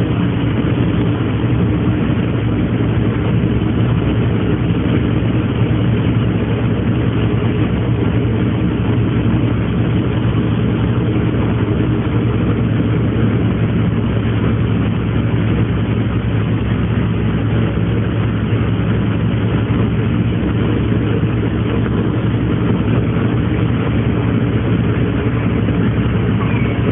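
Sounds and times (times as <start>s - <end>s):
ferry engine droning: 0.0s - 26.9s.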